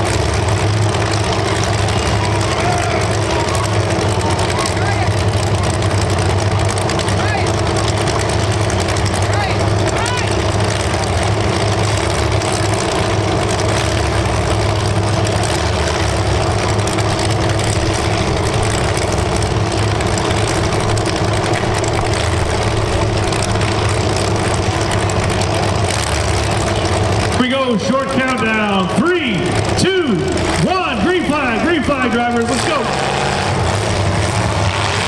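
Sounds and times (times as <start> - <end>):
car engines idling and rumbling: 0.0 - 35.0.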